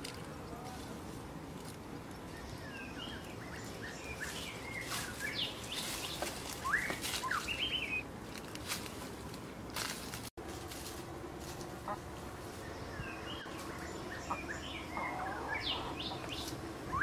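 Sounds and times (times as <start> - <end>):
birds chirping: 0.0 - 8.2, 11.0 - 17.0
footsteps through dry leaves: 0.0 - 14.2.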